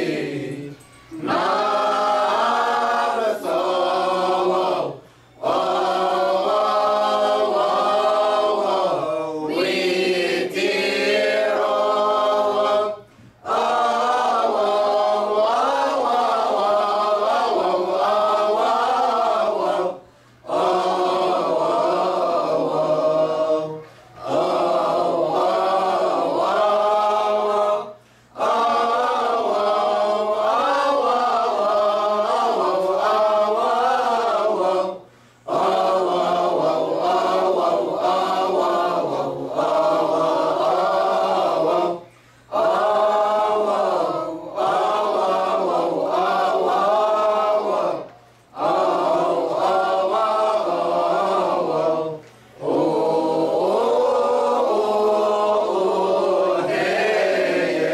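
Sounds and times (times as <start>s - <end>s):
choir singing a hymn unaccompanied: 0.0s - 57.9s.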